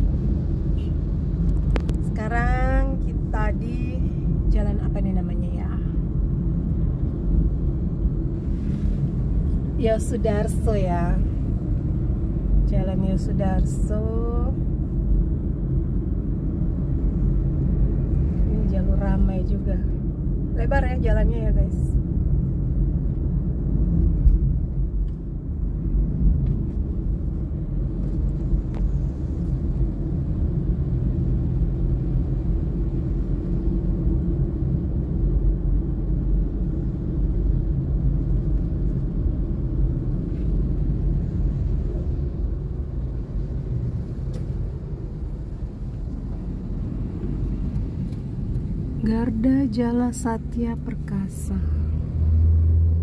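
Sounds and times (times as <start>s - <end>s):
vehicle driving on road: 0.0s - 53.0s.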